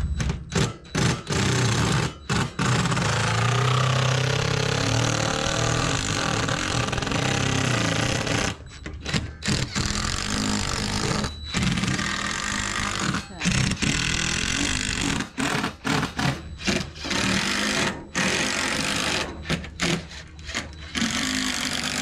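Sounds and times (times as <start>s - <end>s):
impact driver hammering screws: 0.0s - 22.0s.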